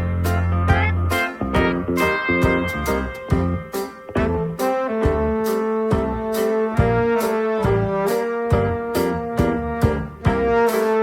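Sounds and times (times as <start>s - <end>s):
melodic music over steady beat: 0.0s - 11.0s.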